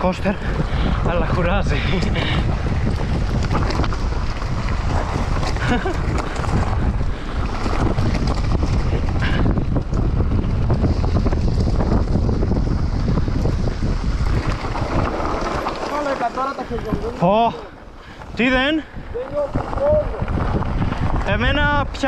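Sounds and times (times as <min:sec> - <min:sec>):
bike rattles and knocks: 0:00.0 - 0:22.0
tyres rolling on dirt: 0:00.0 - 0:22.0
wind rushing over microphone: 0:00.0 - 0:22.0.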